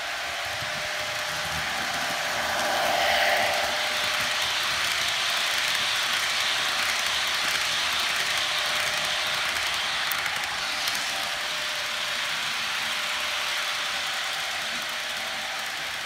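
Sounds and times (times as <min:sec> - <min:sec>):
model train whirring and rattling: 0:00.0 - 0:16.0.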